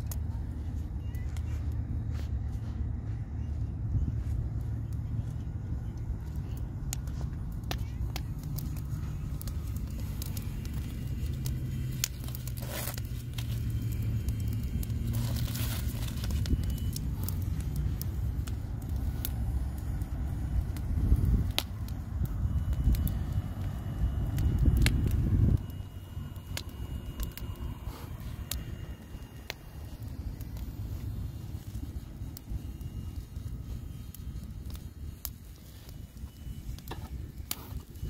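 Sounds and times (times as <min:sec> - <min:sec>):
low rumble: 0:00.0 - 0:38.0
wood fire crackling: 0:00.0 - 0:38.0.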